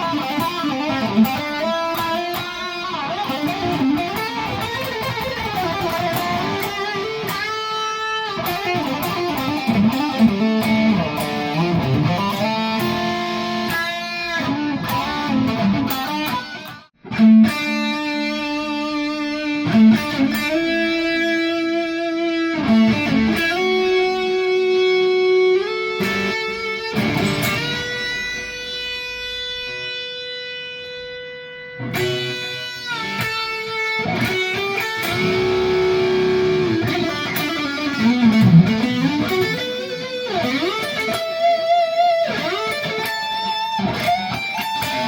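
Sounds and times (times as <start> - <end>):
distorted electric guitar: 0.0 - 45.0.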